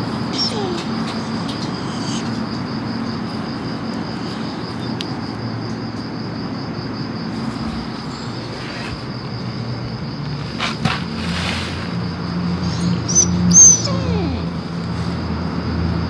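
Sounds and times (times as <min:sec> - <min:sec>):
insect trilling: 0:00.0 - 0:05.7, 0:07.2 - 0:14.8.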